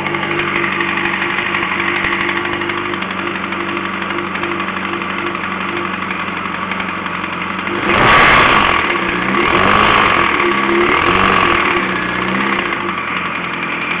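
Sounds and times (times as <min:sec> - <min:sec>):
engine knock: 0:00.0 - 0:14.0
motorcycle engine idling and revving: 0:00.0 - 0:14.0.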